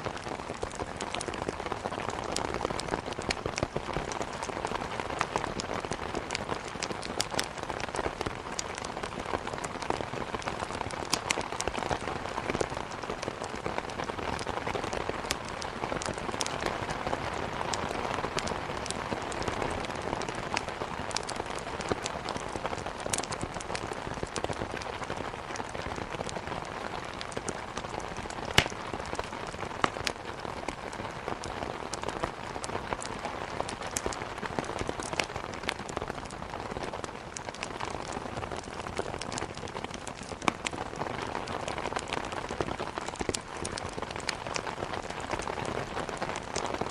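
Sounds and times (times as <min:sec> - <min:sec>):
steady rain: 0:00.0 - 0:46.9
wood fire crackling: 0:00.0 - 0:46.9.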